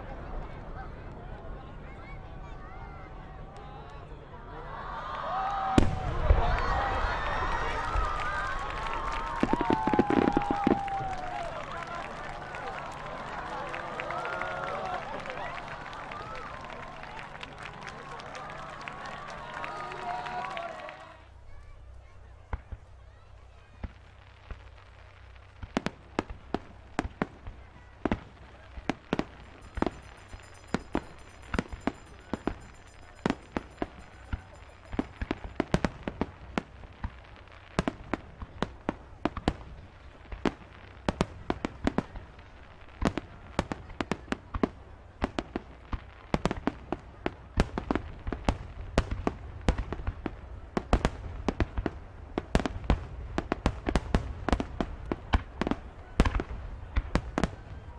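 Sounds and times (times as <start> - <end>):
fireworks bangs and pops: 5.8 - 7.0, 7.6 - 19.2, 21.5 - 57.9.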